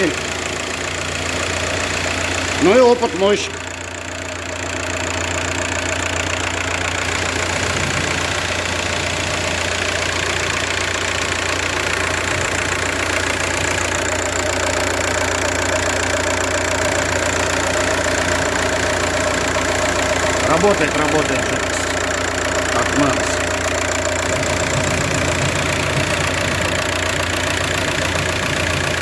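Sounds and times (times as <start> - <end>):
diesel car engine idling: 0.0 - 29.0.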